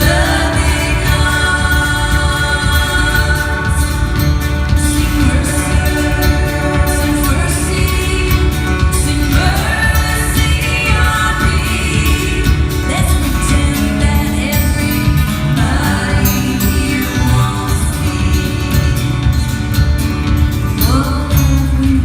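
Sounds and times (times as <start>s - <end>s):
person singing: 0.0s - 19.3s
live band playing: 0.0s - 22.0s.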